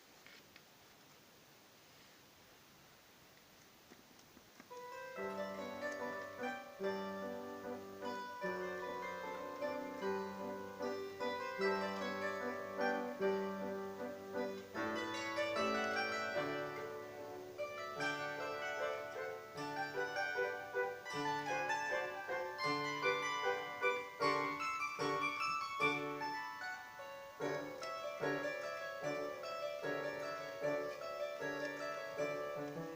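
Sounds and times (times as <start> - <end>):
plucked string melody: 4.7 - 32.9.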